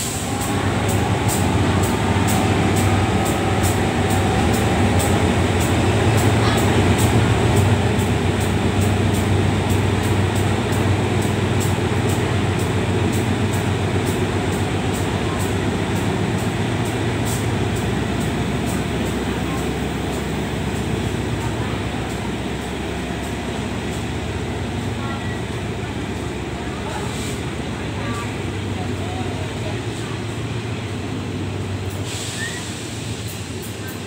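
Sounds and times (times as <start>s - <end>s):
locomotive engine drone: 0.0s - 34.0s
train wheels on rails: 0.0s - 34.0s.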